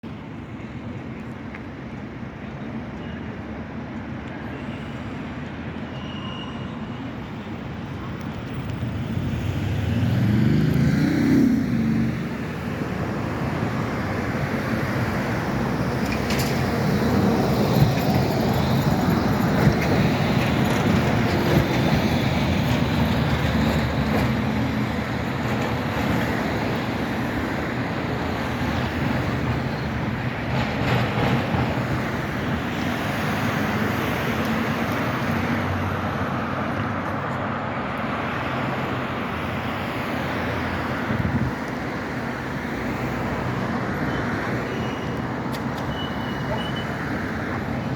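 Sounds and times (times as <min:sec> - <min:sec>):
road traffic: 0:00.0 - 0:47.9
tram rumbling: 0:05.2 - 0:47.9.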